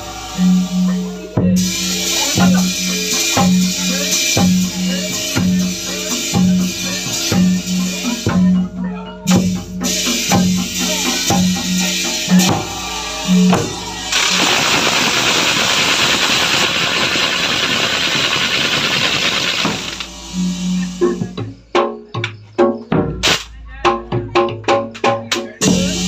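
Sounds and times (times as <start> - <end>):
percussion music: 0.0 - 26.0.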